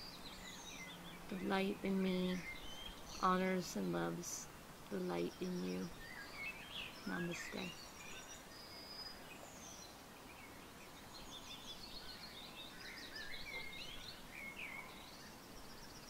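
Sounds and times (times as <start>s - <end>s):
birds singing: 0.0s - 16.0s
low background hiss: 0.0s - 16.0s.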